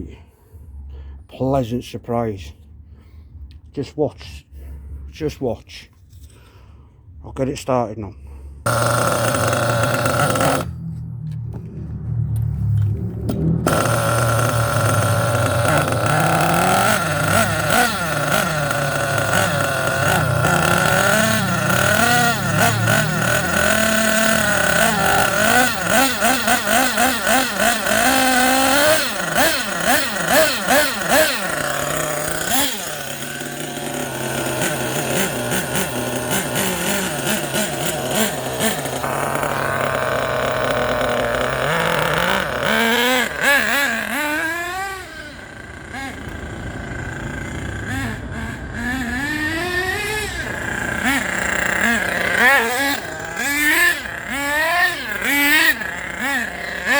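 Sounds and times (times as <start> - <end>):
model engine revving: 8.6 - 56.9.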